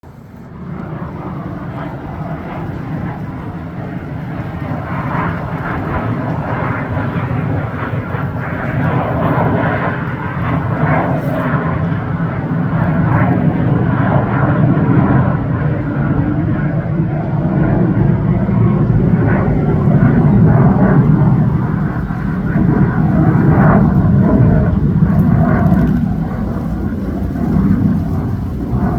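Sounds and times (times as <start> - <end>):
jet flying overhead: 0.0 - 28.9.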